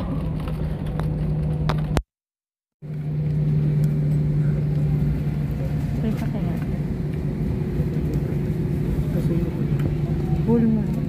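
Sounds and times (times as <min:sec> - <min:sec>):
airliner engines humming: 0:00.0 - 0:02.0, 0:02.8 - 0:11.0.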